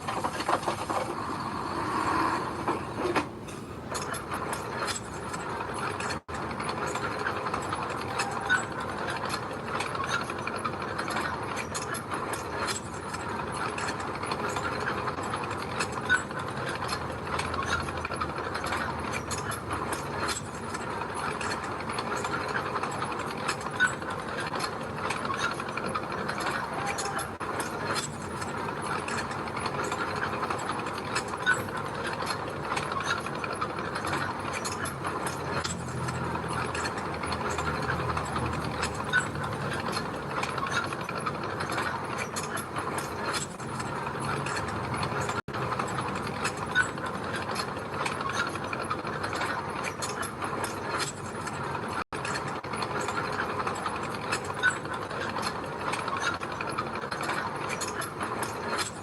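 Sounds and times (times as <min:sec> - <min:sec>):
steel tracks rattling and clanking: 0:00.0 - 0:59.0.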